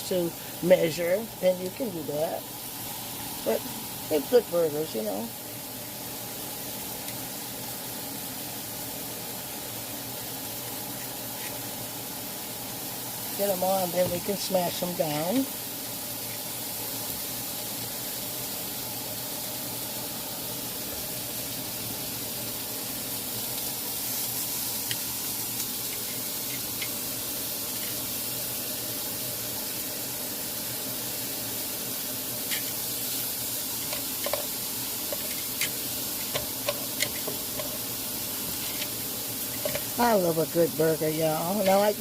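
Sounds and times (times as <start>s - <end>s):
burger patties sizzling: 0.0s - 42.0s.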